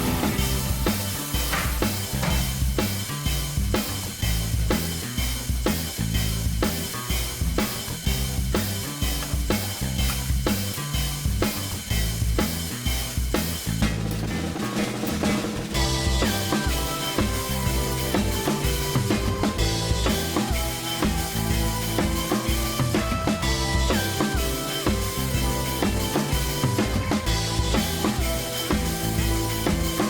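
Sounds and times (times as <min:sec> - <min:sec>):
bass line: 0:00.0 - 0:30.0
drum kit beat: 0:00.0 - 0:30.0.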